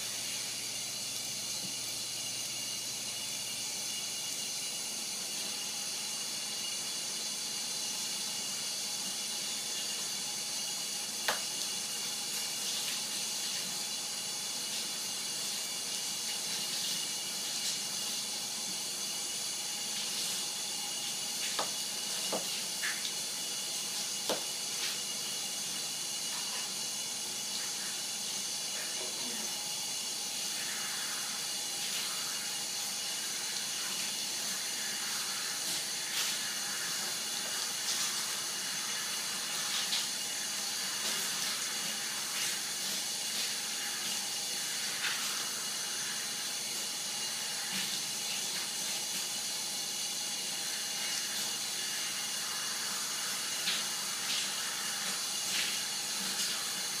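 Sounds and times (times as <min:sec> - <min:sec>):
water running from faucet: 0:00.0 - 0:57.0.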